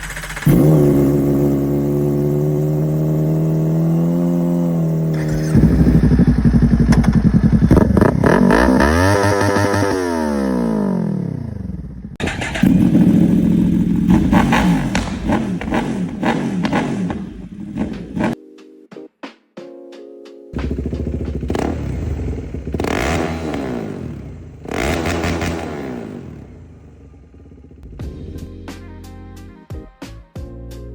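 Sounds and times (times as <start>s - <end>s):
motorcycle engine revving: 0.0s - 18.4s, 20.6s - 28.4s.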